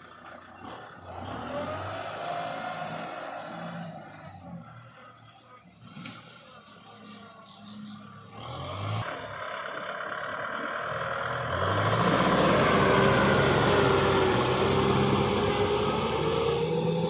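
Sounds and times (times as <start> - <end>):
engine whine: 0.0 - 17.0
tractor engine running: 0.0 - 17.0.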